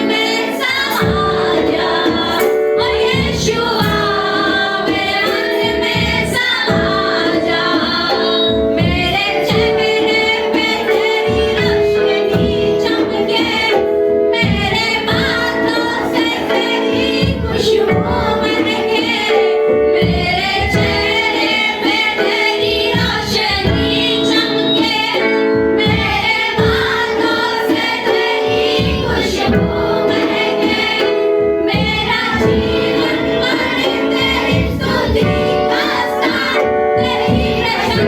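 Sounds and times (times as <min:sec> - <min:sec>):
instrumental accompaniment with beat: 0:00.0 - 0:38.0
women singing worship song: 0:00.0 - 0:38.0.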